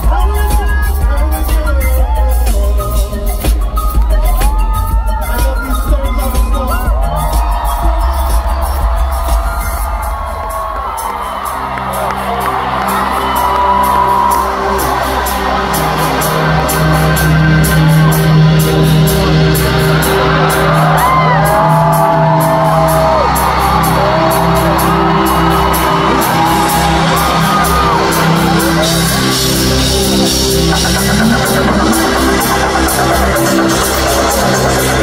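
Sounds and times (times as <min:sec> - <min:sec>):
crowd whooping and shouting: 0:00.0 - 0:35.0
pop music with heavy bass beat: 0:00.0 - 0:35.0.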